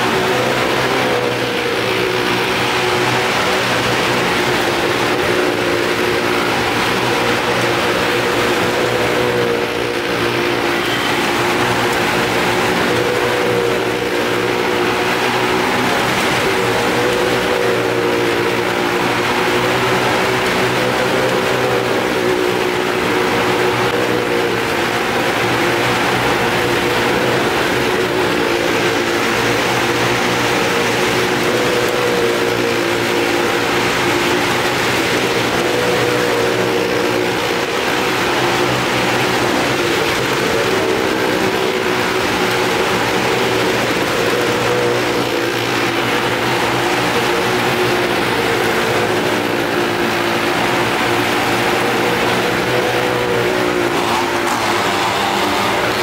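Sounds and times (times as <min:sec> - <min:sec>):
car engines revving: 0:00.0 - 0:56.0
motorcycle engine: 0:00.0 - 0:56.0.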